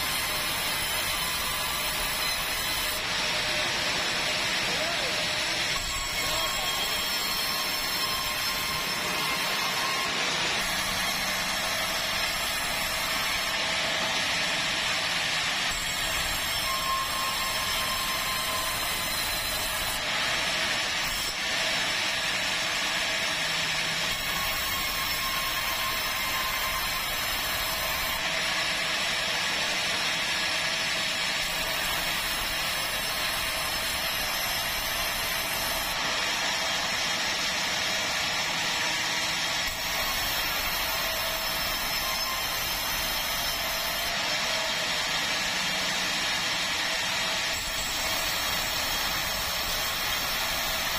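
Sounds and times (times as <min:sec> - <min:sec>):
band saw cutting wood: 0:00.0 - 0:50.9.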